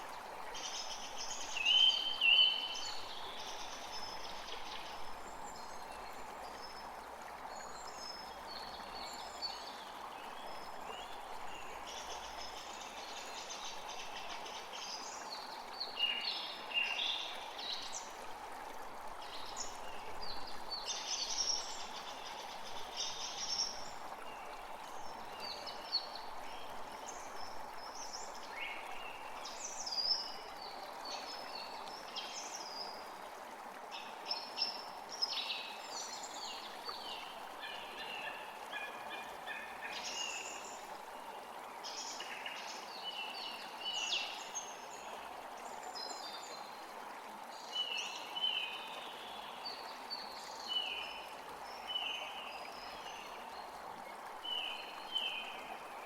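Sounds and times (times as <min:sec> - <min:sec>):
creek running: 0:00.0 - 0:56.0.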